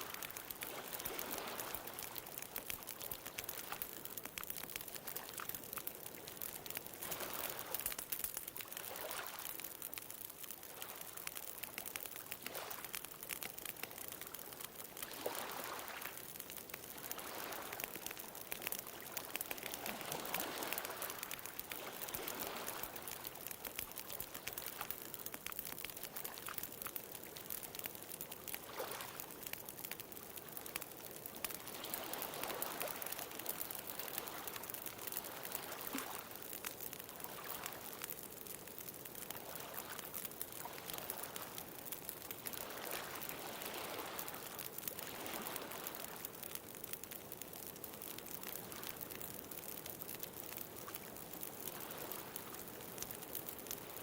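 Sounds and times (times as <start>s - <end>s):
bonfire crackling: 0.0s - 54.0s.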